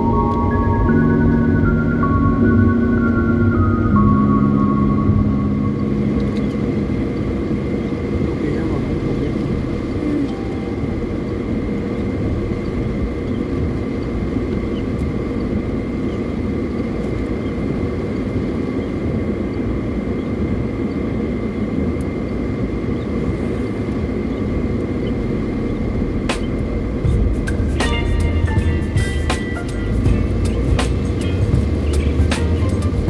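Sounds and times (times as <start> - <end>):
car road and engine rumble: 0.0 - 33.0
faint steady whine: 0.0 - 33.0.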